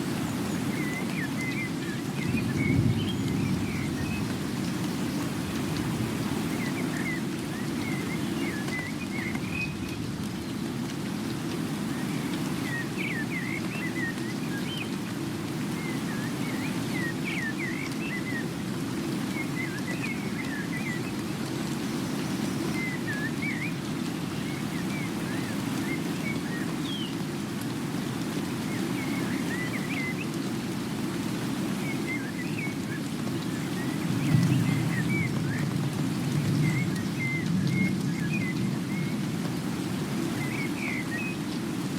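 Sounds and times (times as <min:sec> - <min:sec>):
steady rain falling: 0:00.0 - 0:41.9
birds chirping: 0:00.1 - 0:10.6, 0:11.8 - 0:27.2, 0:28.4 - 0:41.9.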